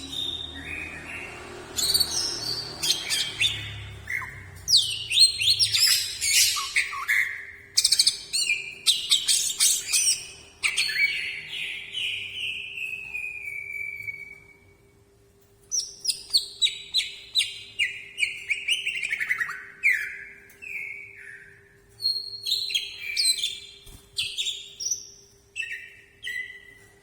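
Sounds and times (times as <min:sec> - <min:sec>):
bird singing whistles and trills: 0:00.0 - 0:14.8, 0:15.7 - 0:27.0.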